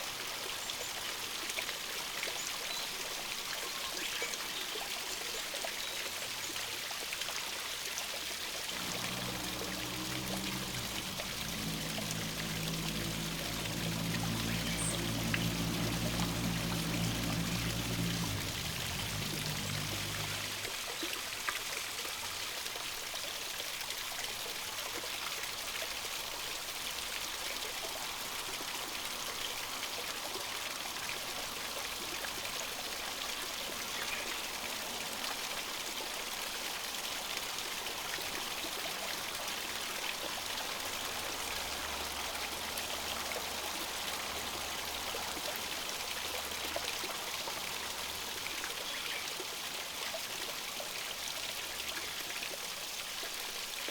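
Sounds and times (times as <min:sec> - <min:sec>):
stream flowing and trickling: 0:00.0 - 0:53.9.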